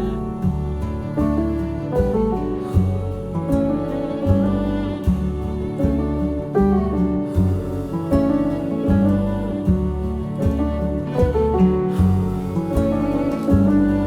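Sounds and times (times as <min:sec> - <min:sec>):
gentle instrumental music: 0:00.0 - 0:14.0.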